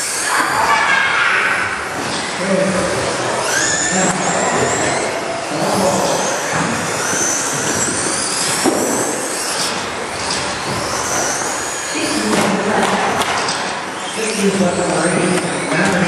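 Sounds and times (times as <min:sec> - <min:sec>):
toy truck motors whining: 0:01.4 - 0:16.0.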